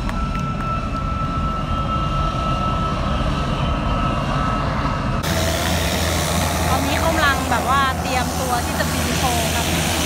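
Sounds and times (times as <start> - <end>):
jet engine whine and rumble: 0.0 - 10.0.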